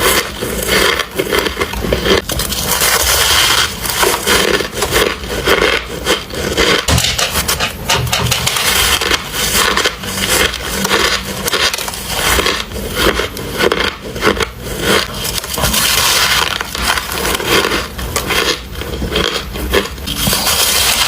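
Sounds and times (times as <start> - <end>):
ice crunching while chewed: 0.0 - 7.6, 8.3 - 21.0.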